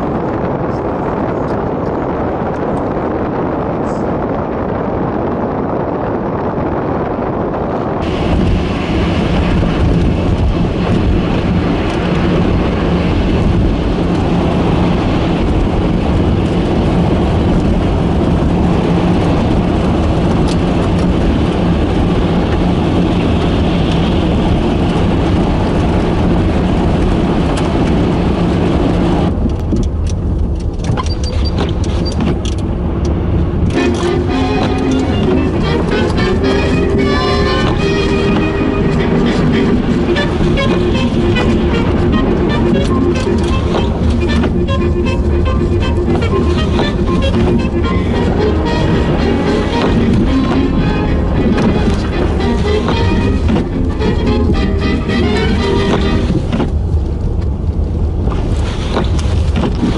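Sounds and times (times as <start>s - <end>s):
blizzard wind rushing: 0.0s - 59.9s
low motor hum: 7.8s - 59.9s.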